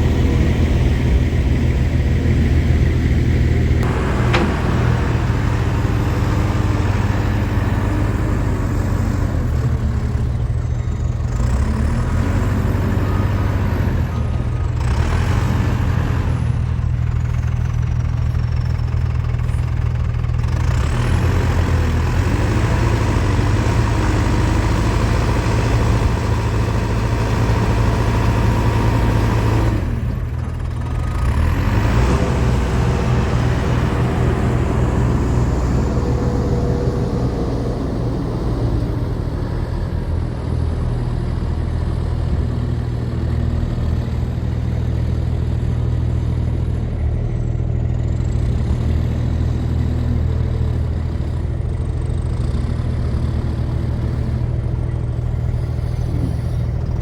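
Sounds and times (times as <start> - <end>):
diesel backhoe engine running: 0.0 - 57.0.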